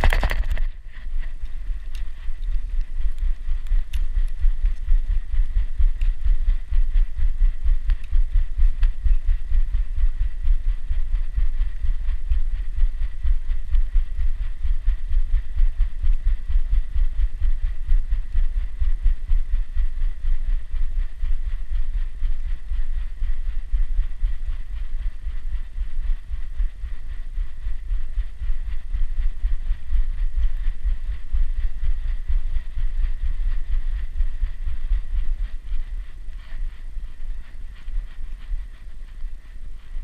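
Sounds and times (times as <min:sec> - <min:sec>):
rhythmic low thumping: 0:00.0 - 0:40.0.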